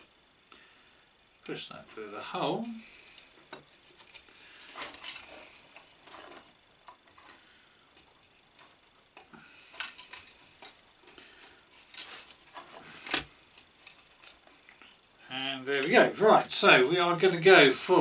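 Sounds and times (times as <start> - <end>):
cable rustling and scraping: 1.4 - 18.0.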